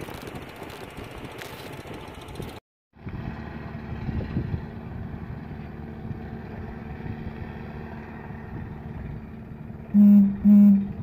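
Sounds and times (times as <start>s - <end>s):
wind buffeting microphone: 0.0s - 9.9s
boat engine humming: 0.0s - 11.0s.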